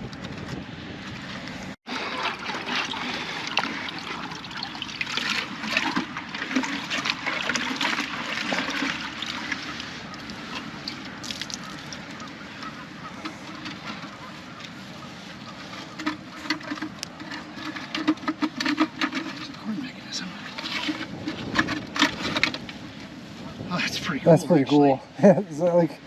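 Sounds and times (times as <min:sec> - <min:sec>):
water trickling and splashing: 0:01.9 - 0:26.0.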